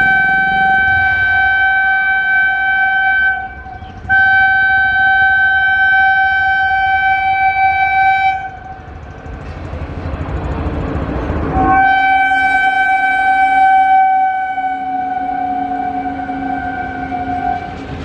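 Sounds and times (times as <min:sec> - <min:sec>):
train horn blasts: 0:00.0 - 0:09.0, 0:11.5 - 0:18.0
train rumble: 0:00.0 - 0:18.0.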